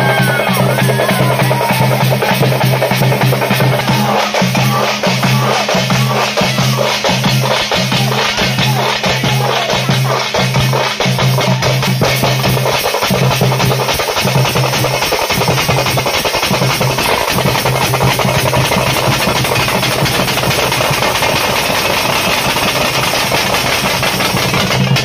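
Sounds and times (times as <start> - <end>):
drums beaten with sticks: 0.0 - 25.0
hand cymbals clashing: 0.0 - 25.0.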